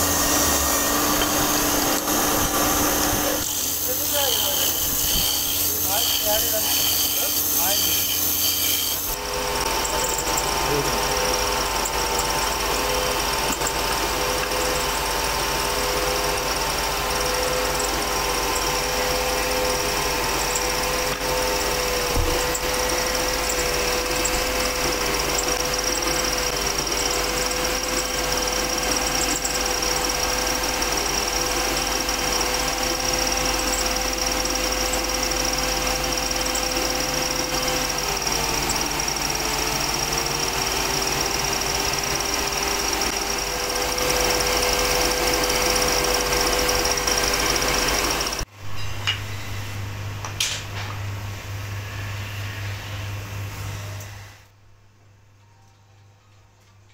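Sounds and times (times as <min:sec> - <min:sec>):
lathe motor humming: 0:00.0 - 0:48.5.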